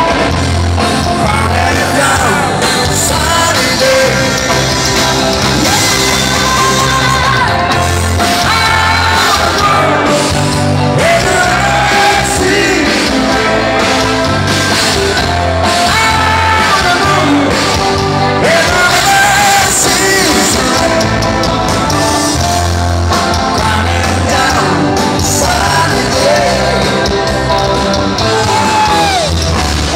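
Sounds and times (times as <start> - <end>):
live rock band playing: 0.0 - 29.9
lead singer's voice: 1.0 - 22.4, 23.3 - 29.4.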